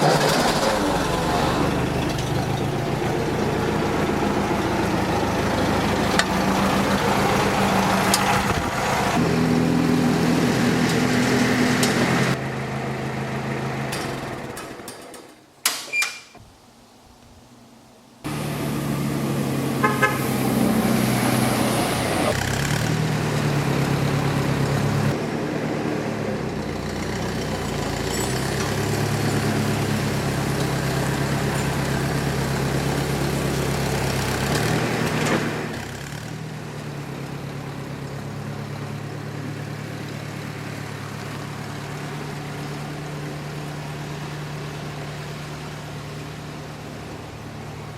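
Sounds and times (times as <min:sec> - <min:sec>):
heavy engine running: 0:00.0 - 0:15.3, 0:18.3 - 0:47.9.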